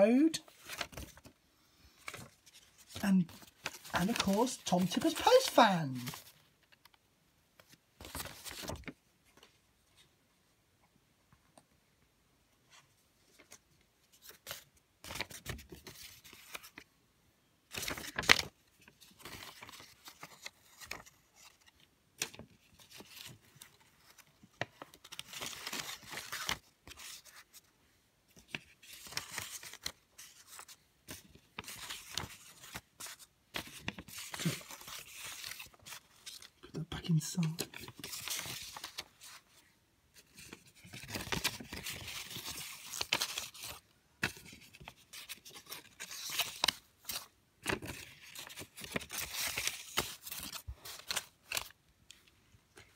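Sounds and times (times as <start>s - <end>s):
paper and plastic rustling: 0.4s - 7.0s, 7.6s - 10.1s, 17.7s - 27.7s, 28.4s - 36.6s, 37.2s - 52.9s.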